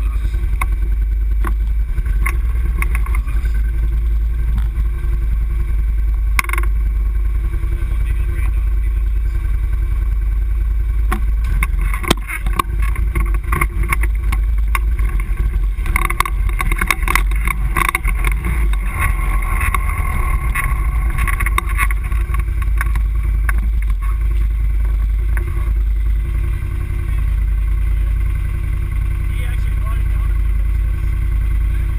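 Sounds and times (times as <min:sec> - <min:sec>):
atv engine rumbling: 0:00.0 - 0:31.9.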